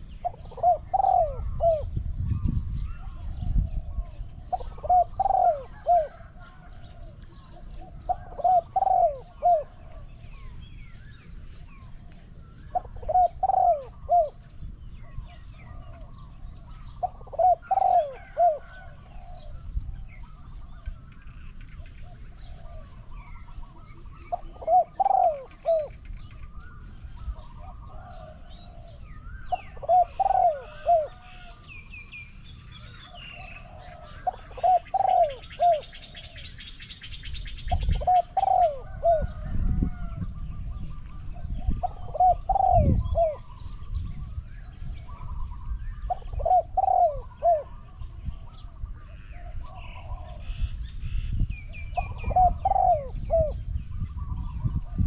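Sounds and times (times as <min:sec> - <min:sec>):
dove cooing: 0:00.0 - 0:10.6, 0:11.2 - 0:21.0, 0:21.7 - 0:31.6, 0:32.7 - 0:55.0.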